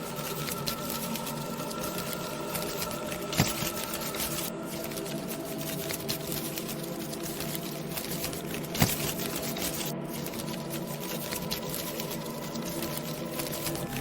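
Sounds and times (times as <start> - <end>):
crackling pattering texture: 0.0 - 14.0
steady humming drone: 0.0 - 14.0.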